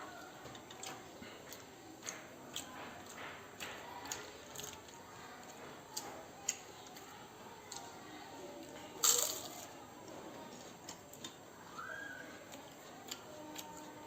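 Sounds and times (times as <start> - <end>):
chewing food: 0.0 - 14.0.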